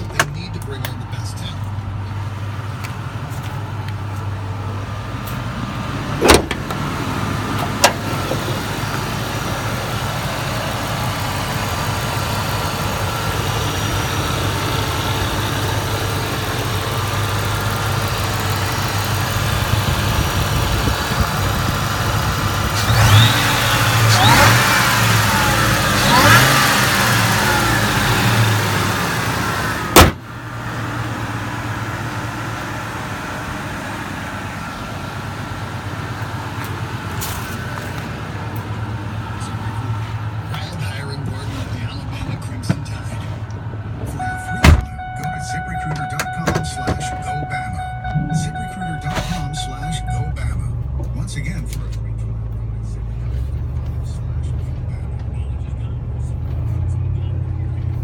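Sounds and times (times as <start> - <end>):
pickup engine running: 0.0 - 58.0.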